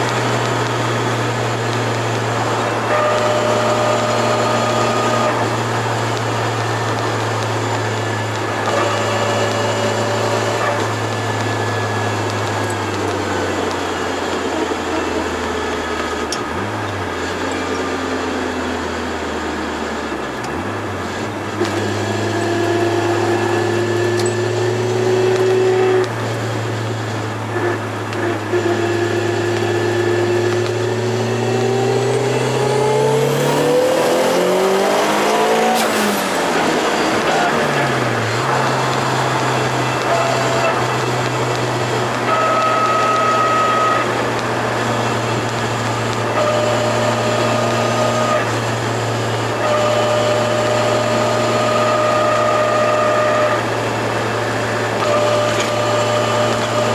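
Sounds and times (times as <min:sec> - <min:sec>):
turbocharged car engine driving: 0:00.0 - 0:56.9.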